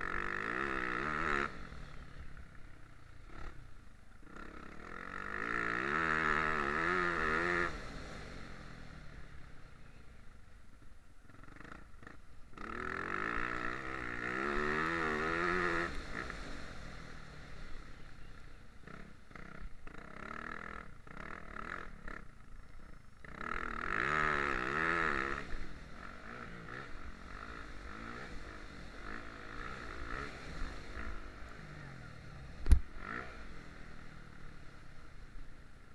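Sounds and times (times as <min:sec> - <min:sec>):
motocross bike engine revving: 0:00.0 - 0:10.3, 0:11.2 - 0:35.9.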